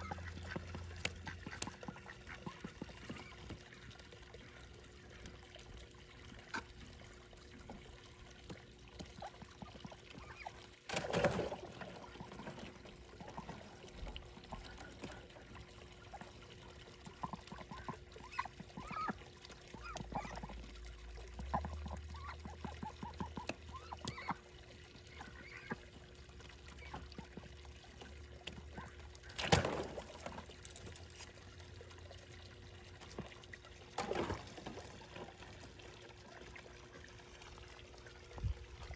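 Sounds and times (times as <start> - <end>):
ducks dabbling in water: 0.0 - 38.9
water splashes: 0.0 - 38.9
water trickling: 0.0 - 38.9.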